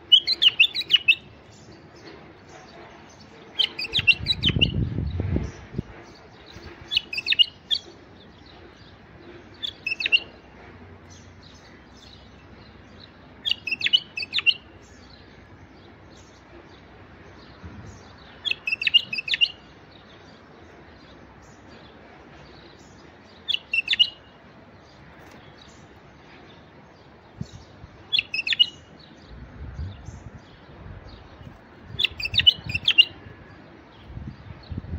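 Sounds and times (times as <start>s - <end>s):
bulbul singing: 0.0s - 26.0s, 27.4s - 34.9s.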